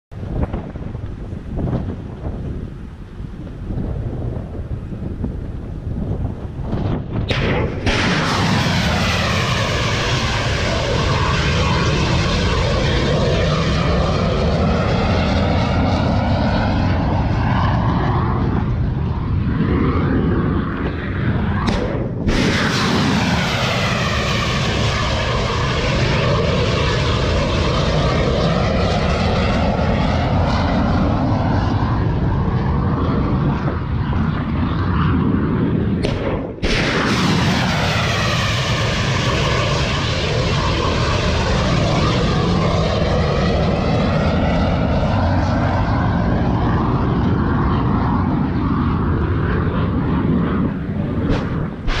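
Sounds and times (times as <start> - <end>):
missile launch rocket roar: 0.2 - 52.0.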